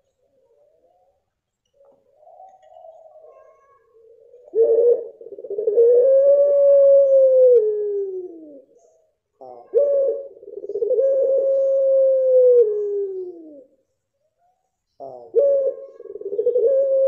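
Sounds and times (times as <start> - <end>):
dove cooing: 0.0 - 13.9, 15.0 - 17.0.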